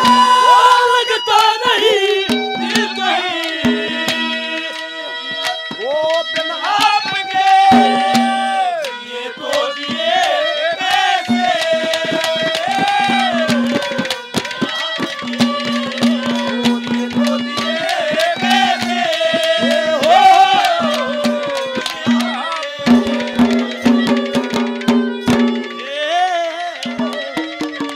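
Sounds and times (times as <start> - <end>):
sliding melody line: 0.0 - 27.9
hand drum beating: 2.3 - 8.9, 9.5 - 25.9, 26.8 - 27.9.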